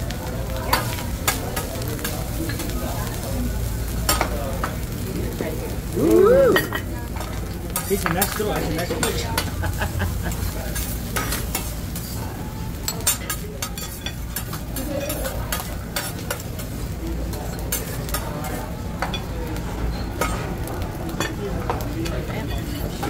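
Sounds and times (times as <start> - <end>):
food sizzling on griddle: 0.0 - 23.0.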